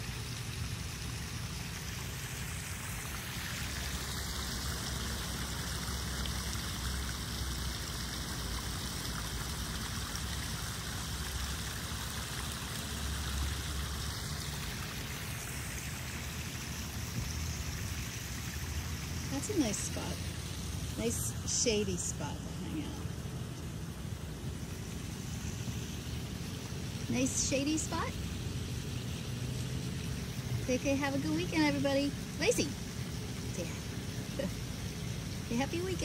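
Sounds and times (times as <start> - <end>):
small waterfall running: 0.0 - 36.0.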